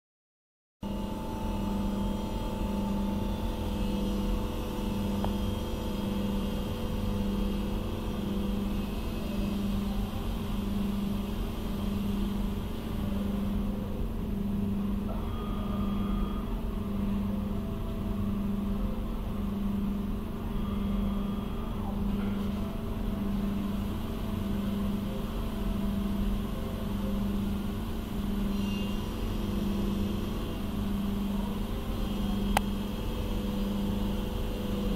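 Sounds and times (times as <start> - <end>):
high whirring tones: 0.8 - 34.9
machine humming: 0.8 - 34.9.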